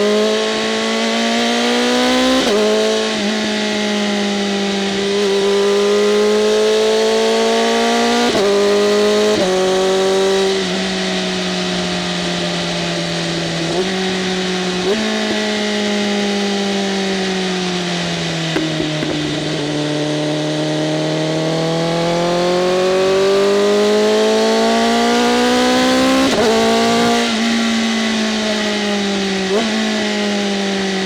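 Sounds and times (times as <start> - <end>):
motorcycle engine running: 2.2 - 31.0.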